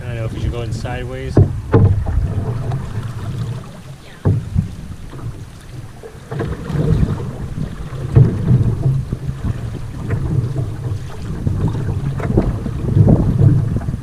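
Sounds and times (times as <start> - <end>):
paddle strokes splashing: 0.0 - 14.0
water splashing against hull: 0.0 - 14.0
wind on microphone: 0.0 - 14.0.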